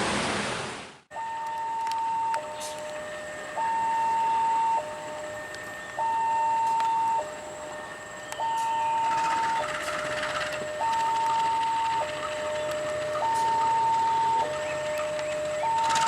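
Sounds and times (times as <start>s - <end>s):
level-crossing alarm two-tone: 1.1s - 16.0s.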